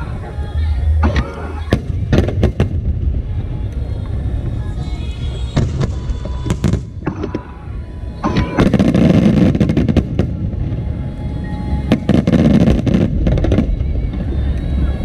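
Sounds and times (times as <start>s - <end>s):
low rumble: 0.0s - 15.0s
firework bangs: 1.0s - 14.9s
crackling firework bursts: 1.0s - 15.0s.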